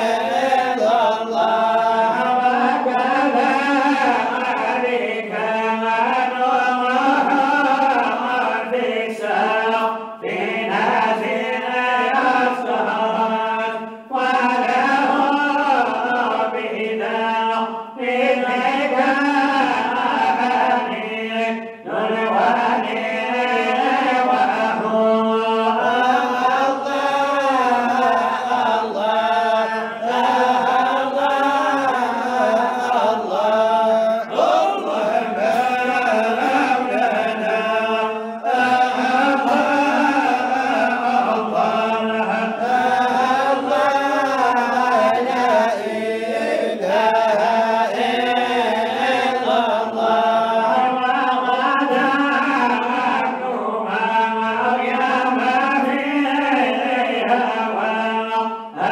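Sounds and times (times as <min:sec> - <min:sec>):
man chanting into a microphone: 0:00.0 - 0:58.9.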